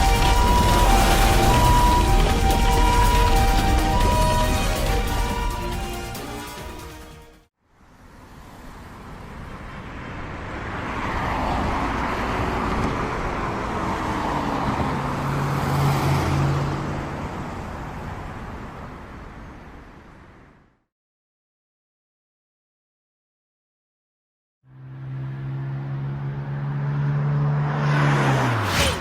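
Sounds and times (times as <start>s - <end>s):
cars going by: 0.0s - 6.6s, 7.8s - 20.6s, 24.7s - 29.0s.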